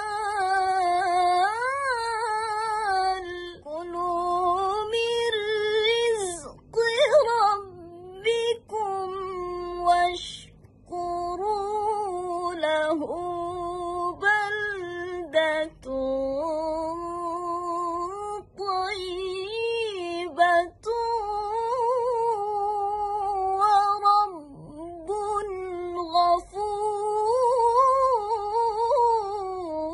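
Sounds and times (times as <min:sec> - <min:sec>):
woman reciting melodically: 0:00.0 - 0:29.9.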